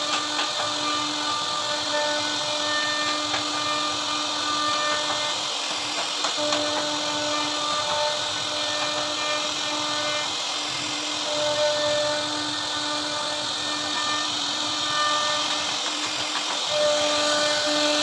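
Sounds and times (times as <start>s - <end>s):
router cutting wood: 0.0s - 18.0s.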